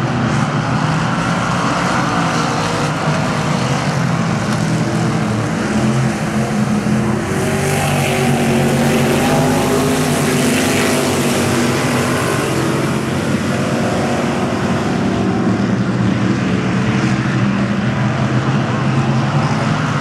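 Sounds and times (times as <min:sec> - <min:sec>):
race car engines roaring past: 0:00.0 - 0:20.0.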